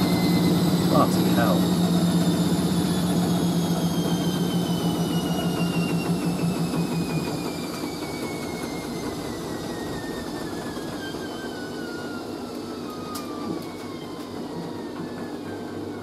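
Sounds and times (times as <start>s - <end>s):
washing machine winding down: 0.0s - 16.0s.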